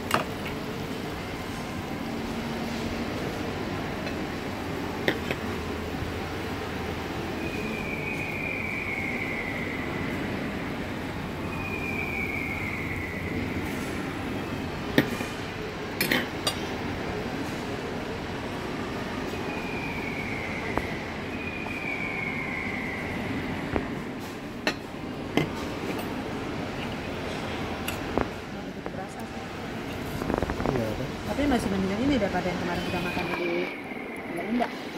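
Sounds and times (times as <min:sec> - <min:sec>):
steady background hum: 0:00.0 - 0:34.9.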